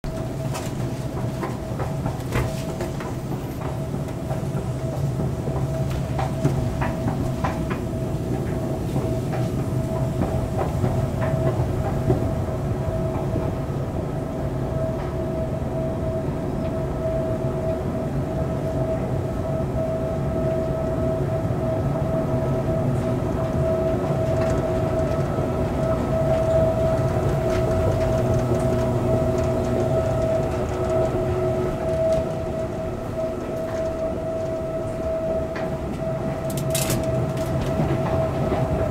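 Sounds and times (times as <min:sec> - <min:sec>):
escalator humming and whining: 0:00.0 - 0:38.9.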